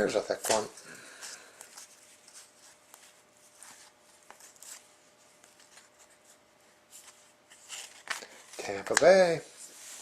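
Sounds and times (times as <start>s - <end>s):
cards being shuffled by hand: 1.6s - 10.0s.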